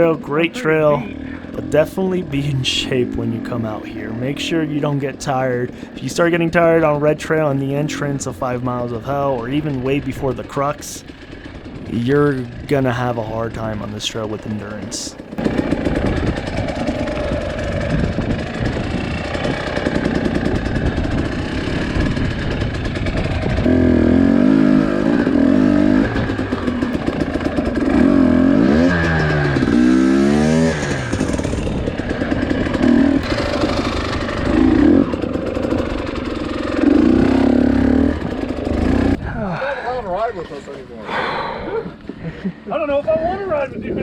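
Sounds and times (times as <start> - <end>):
two-stroke dirt bike engine: 0.0 - 44.0.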